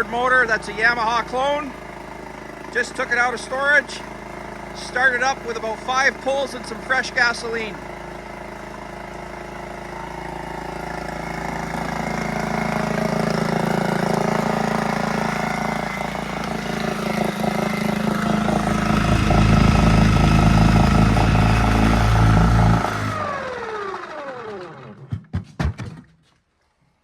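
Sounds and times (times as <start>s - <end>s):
outboard motor running: 0.0s - 25.2s.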